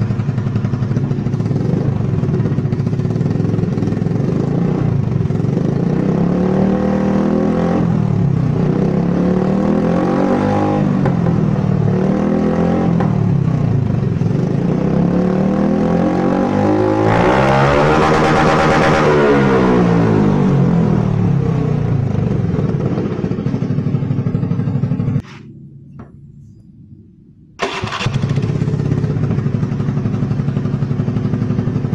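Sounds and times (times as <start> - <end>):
scooter engine idling and revving: 0.0 - 25.5, 27.6 - 31.9.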